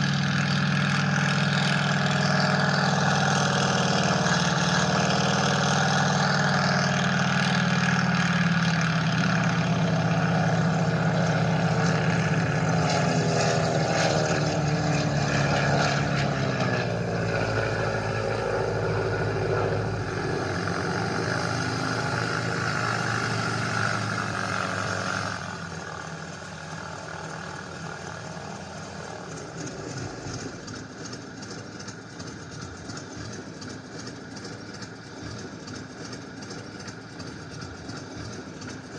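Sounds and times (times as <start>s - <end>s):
biplane radial engine running: 0.0s - 38.9s.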